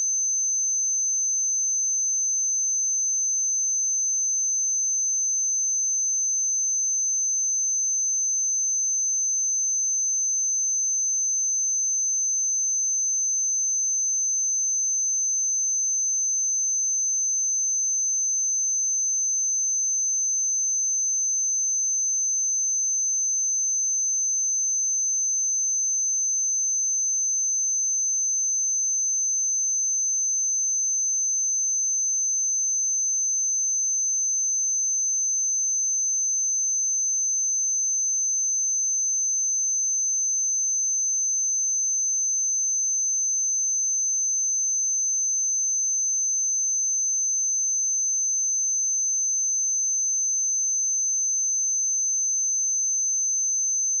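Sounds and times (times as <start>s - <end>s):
high-pitched sine-wave test tone: 0.0s - 54.0s.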